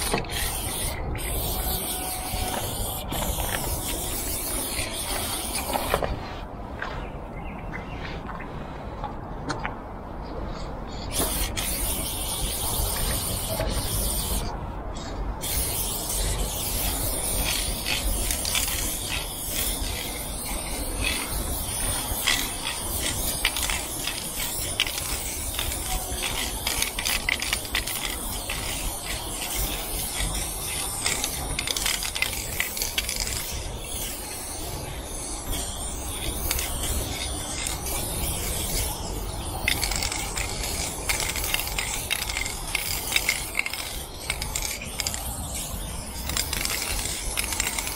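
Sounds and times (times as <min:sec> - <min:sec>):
spray paint can hissing: 0:00.0 - 0:06.2, 0:10.9 - 0:47.9.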